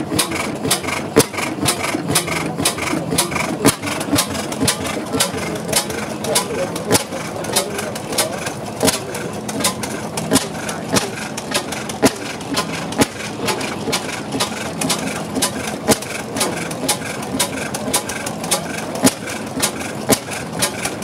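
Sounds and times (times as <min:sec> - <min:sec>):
gas engine beating slowly: 0:00.0 - 0:21.0.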